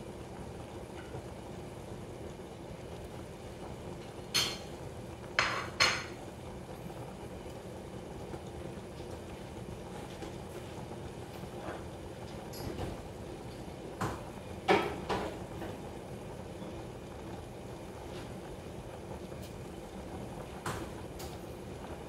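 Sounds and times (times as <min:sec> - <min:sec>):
sauce bubbling: 0:00.0 - 0:22.0.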